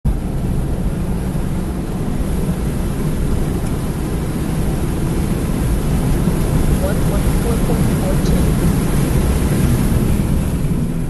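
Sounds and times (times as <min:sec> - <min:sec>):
car accelerating rumble: 0:00.0 - 0:11.0.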